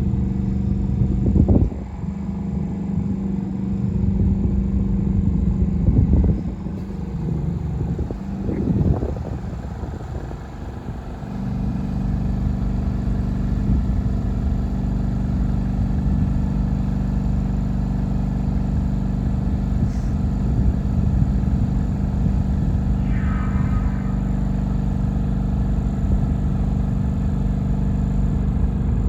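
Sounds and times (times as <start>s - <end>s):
diesel generator running: 0.0s - 29.0s.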